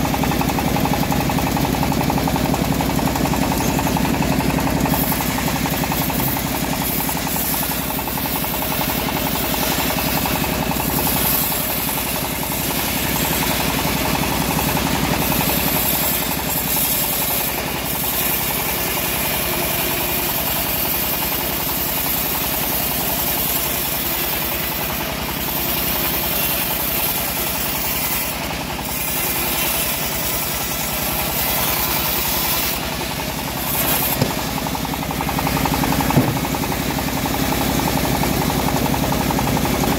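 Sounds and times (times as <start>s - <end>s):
bandsaw mill sawing a log: 0.0s - 39.9s.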